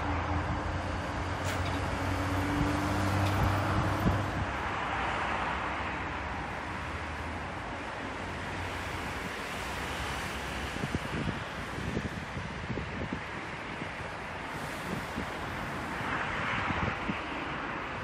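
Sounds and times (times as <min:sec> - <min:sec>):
city and railway background noise: 0:00.0 - 0:18.0.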